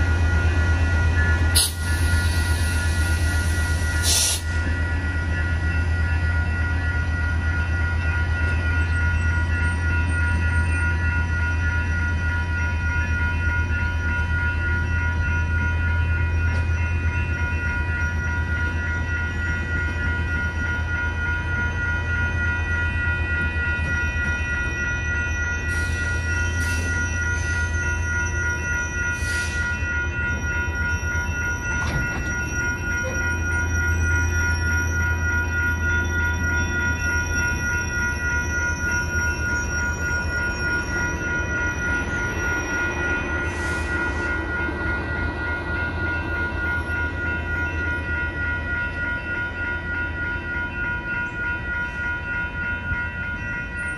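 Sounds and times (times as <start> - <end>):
train diesel rumble: 0.0 - 53.9.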